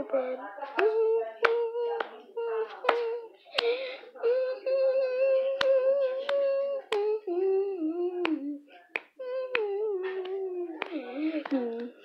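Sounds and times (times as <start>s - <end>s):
person humming: 0.0s - 12.0s.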